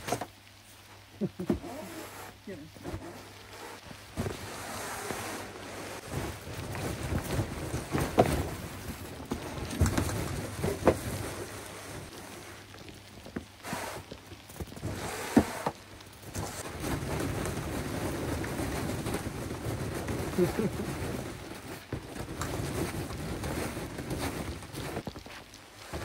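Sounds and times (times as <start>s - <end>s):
snow pattering: 0.0s - 26.0s
wind: 0.0s - 26.0s.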